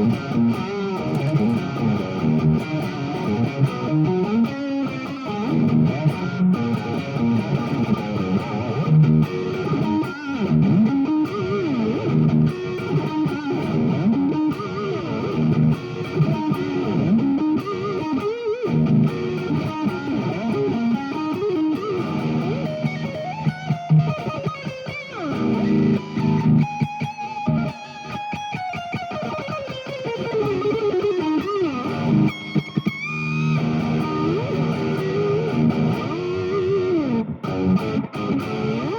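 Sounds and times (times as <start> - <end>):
electric guitar picking single notes: 0.0 - 38.9.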